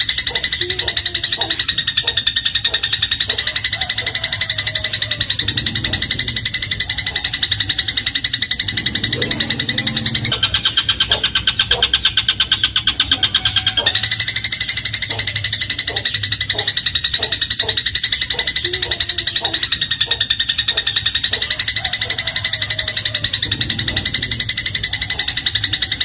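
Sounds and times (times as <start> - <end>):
sparrow chirping: 0.0 - 26.0.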